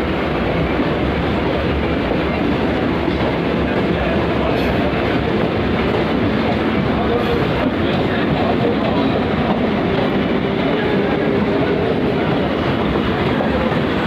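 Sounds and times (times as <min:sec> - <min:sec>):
train wheels rattling on rails: 0:00.0 - 0:14.0.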